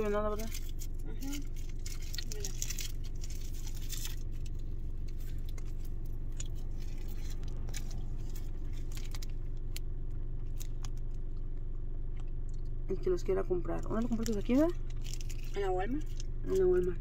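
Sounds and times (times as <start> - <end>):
foil wrapper crinkling: 0.0 - 11.4, 13.8 - 17.0
car cabin drone: 0.0 - 17.0.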